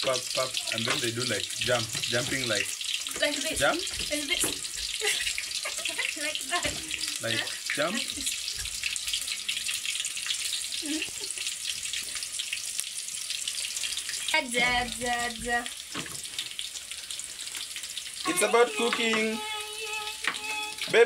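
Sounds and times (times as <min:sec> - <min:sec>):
food sizzling and crackling: 0:00.0 - 0:21.0.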